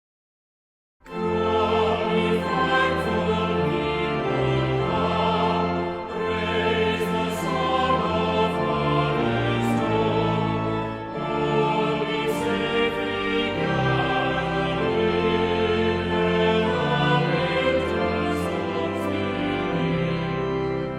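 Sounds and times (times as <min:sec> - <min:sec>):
choir singing with accompaniment: 0:01.1 - 0:20.9.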